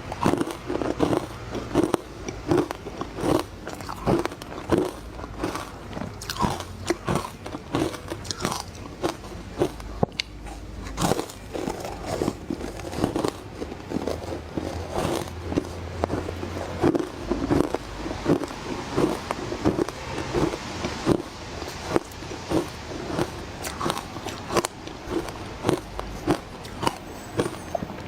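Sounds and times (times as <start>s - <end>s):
ice crunching being chewed: 0.0s - 28.0s.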